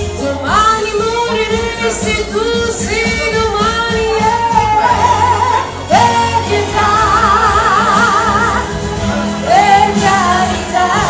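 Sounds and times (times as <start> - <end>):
backing music: 0.0 - 11.0
woman singing into a microphone: 0.1 - 11.0.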